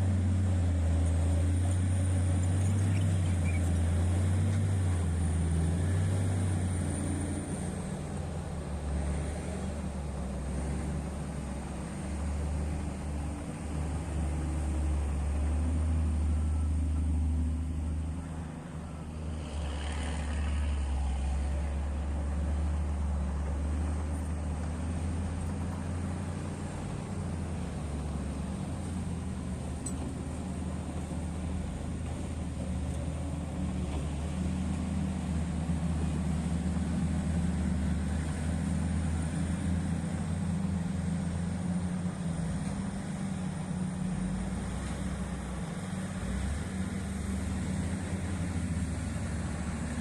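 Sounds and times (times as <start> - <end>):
large diesel engine droning: 0.0 - 50.0.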